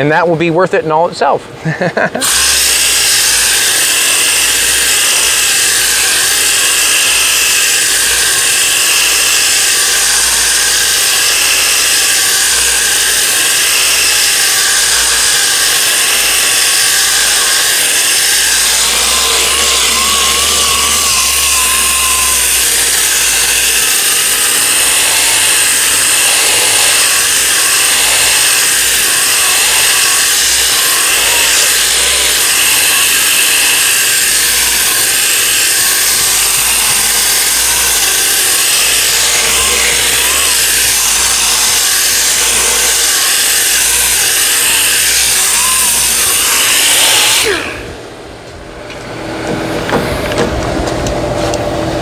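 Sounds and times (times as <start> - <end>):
orbital sander sanding filler: 2.2 - 47.8.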